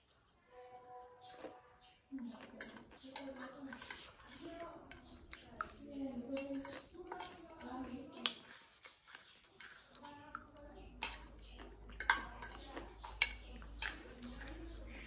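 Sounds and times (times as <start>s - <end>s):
eating and chewing: 0.0s - 15.0s
fork clinking against a plate: 2.4s - 15.0s.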